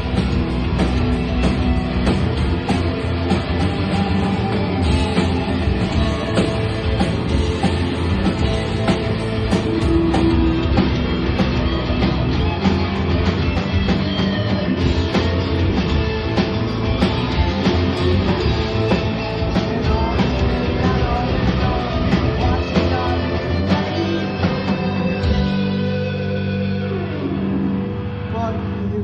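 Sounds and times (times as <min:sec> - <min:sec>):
steady drum beat: 0:00.0 - 0:25.8
electric guitar: 0:00.0 - 0:29.0.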